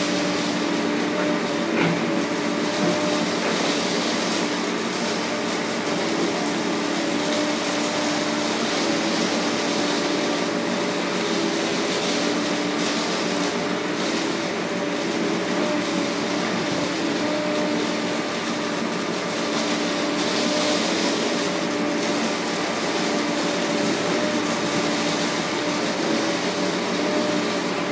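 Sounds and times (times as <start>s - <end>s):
constant machine hum: 0.0s - 27.9s.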